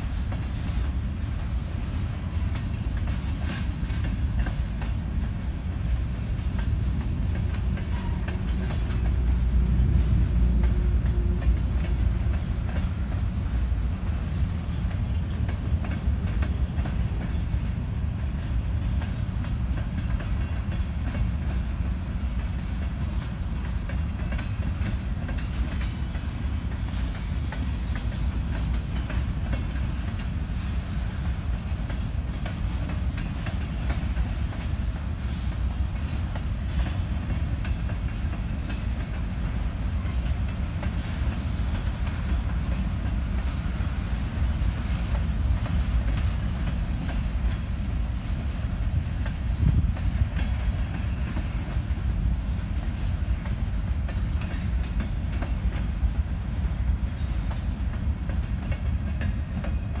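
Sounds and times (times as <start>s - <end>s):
train cars clanking: 0.0s - 60.0s
train wheels rumbling on rails: 0.0s - 60.0s.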